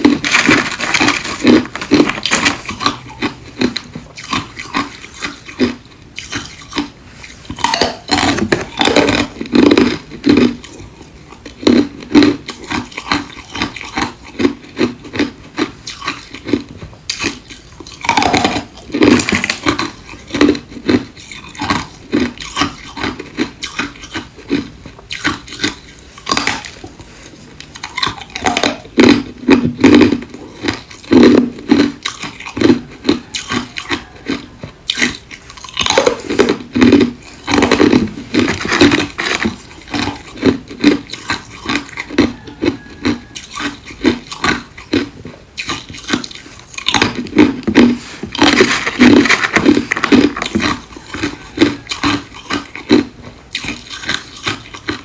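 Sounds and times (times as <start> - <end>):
ice being crunched and chewed: 0.0 - 55.0.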